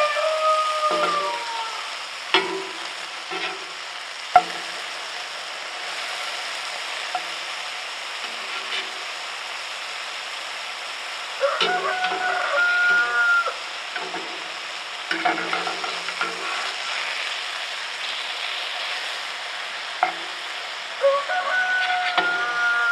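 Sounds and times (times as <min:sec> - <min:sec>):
sausages sizzling in a frying pan: 0:00.0 - 0:22.9.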